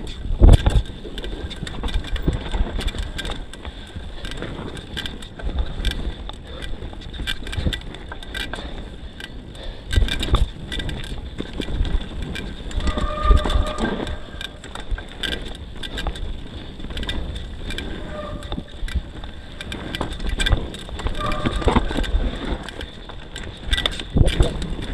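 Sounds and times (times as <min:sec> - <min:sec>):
bike rattling clicks: 0:00.0 - 0:24.9
bike tyres rolling on dirt: 0:00.0 - 0:24.9.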